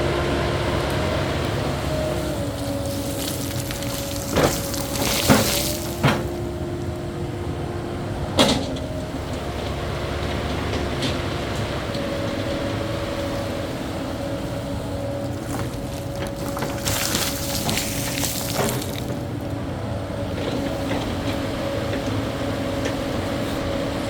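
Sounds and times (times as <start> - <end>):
diesel engine under load: 0.0 - 24.0.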